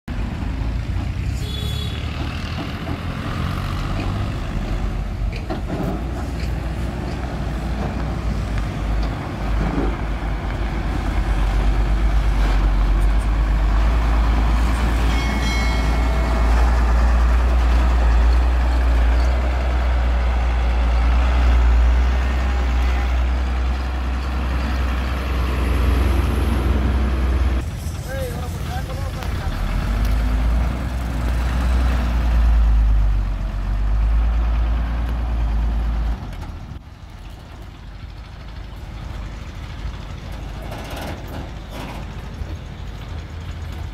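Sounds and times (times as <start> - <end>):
diesel truck engine running: 2.1 - 43.9.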